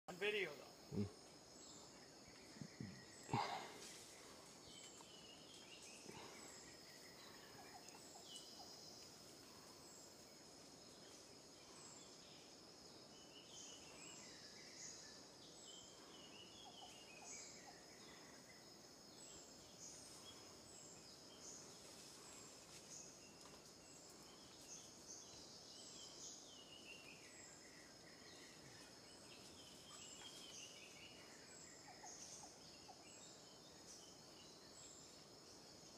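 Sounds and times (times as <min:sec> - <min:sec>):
bird calls: 0:00.1 - 0:10.2, 0:13.2 - 0:35.2.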